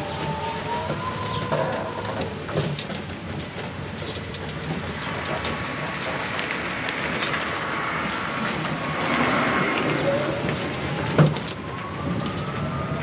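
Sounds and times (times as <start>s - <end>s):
cart body rattling: 0.0s - 12.6s
tyre and road noise: 0.0s - 13.0s.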